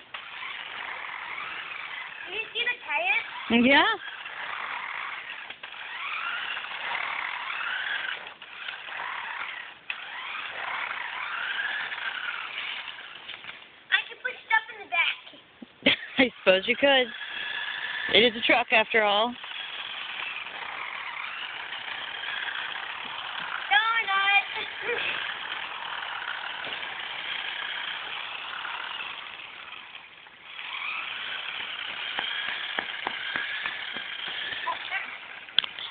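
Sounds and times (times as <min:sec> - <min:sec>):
toy electric motor whining: 0:00.0 - 0:35.9.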